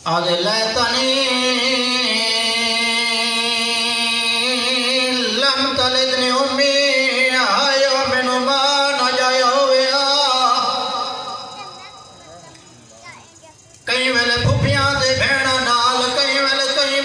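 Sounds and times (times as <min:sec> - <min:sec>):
man chanting a lament: 0:00.0 - 0:11.6, 0:13.9 - 0:17.0.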